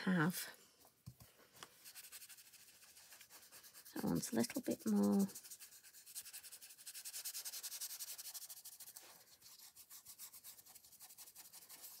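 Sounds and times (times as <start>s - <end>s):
brush rubbing ink onto card: 1.8s - 12.0s.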